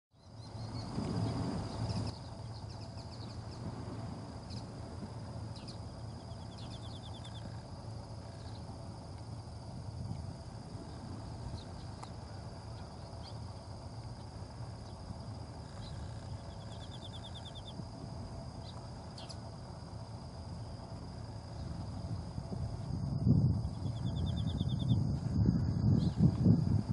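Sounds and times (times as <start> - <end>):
insects singing: 0.2 - 26.9
low steady rumble: 0.2 - 26.9.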